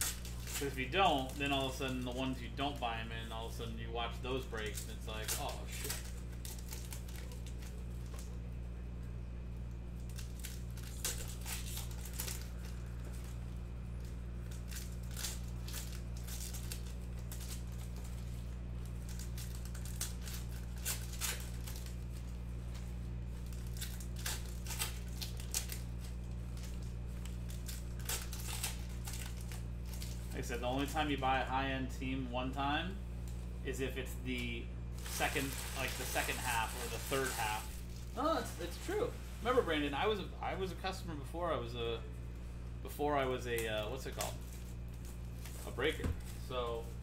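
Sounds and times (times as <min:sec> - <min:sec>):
foil wrappers crinkling and tearing: 0:00.0 - 0:08.8, 0:09.8 - 0:31.4, 0:34.4 - 0:40.9, 0:43.2 - 0:47.0
steady low hum: 0:00.0 - 0:47.0.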